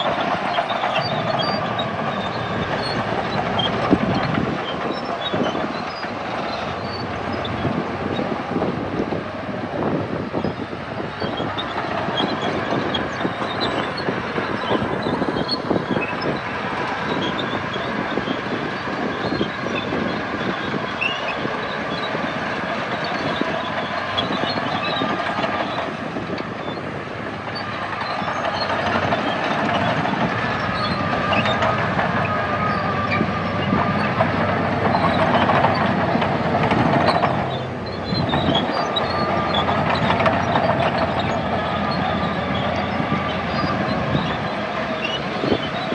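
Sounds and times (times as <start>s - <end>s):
diesel engine running under load: 0.0s - 45.9s
steel tracks clattering: 0.0s - 45.9s.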